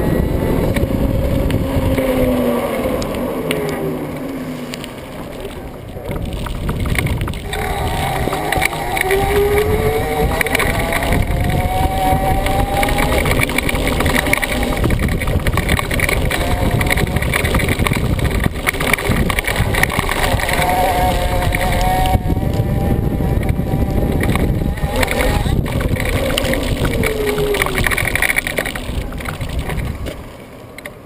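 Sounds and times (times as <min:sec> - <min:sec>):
rising whine: 0:00.0 - 0:30.2
tyre rumbling over dirt: 0:00.0 - 0:30.4
wind buffeting microphone: 0:00.0 - 0:30.5.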